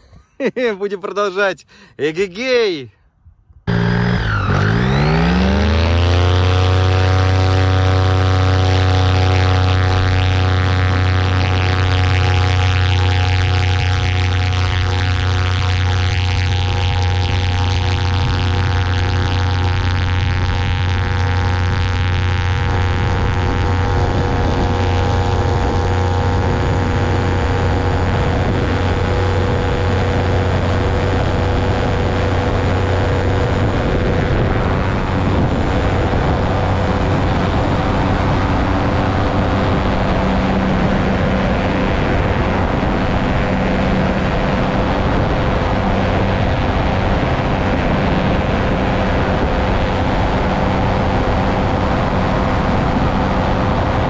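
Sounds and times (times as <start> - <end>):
motor glider engine and propeller: 3.7 - 54.0.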